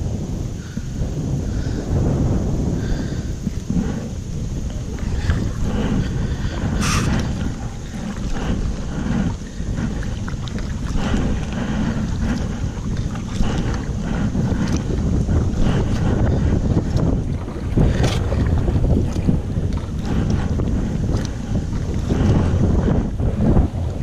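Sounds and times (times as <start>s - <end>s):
water splashing around kayak: 0.0s - 24.0s
wind buffeting microphone: 0.0s - 24.0s.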